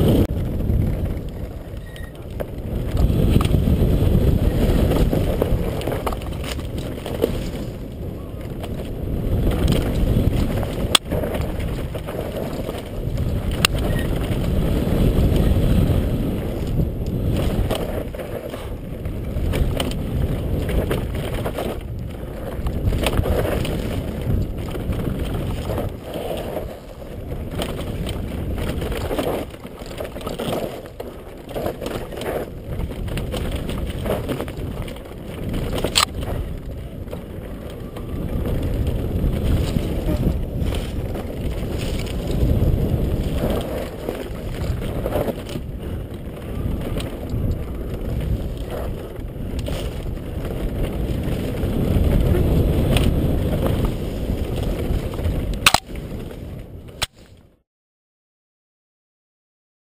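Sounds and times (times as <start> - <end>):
wind buffeting microphone: 0.0 - 57.5.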